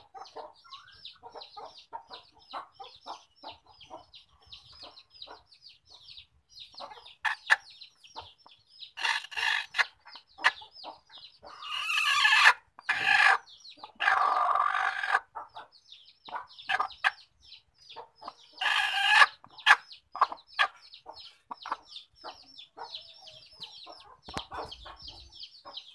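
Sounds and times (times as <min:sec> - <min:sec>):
chickens calling: 0:00.0 - 0:25.9.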